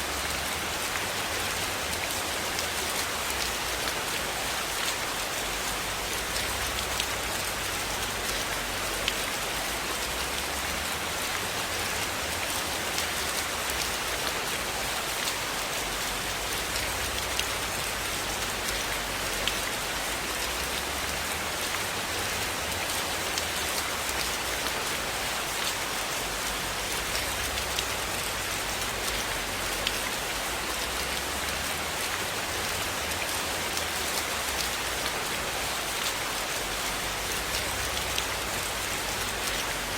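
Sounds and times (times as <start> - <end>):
steady rain hiss: 0.0 - 39.9
raindrops ticking: 0.1 - 39.9.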